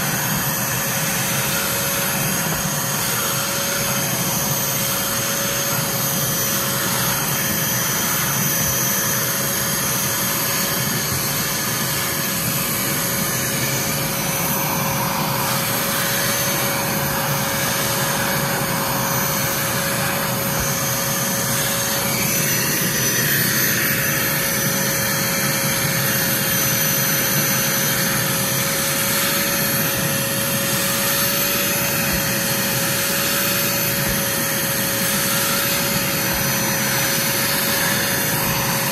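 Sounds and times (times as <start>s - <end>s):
carpet extractor vacuum whine: 0.0s - 38.9s.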